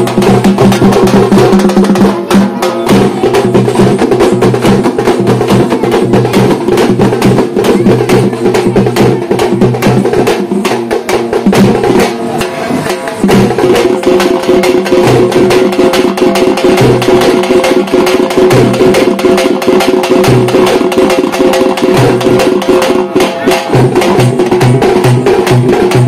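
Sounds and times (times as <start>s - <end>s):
frame drums beaten fast: 0.0s - 26.0s.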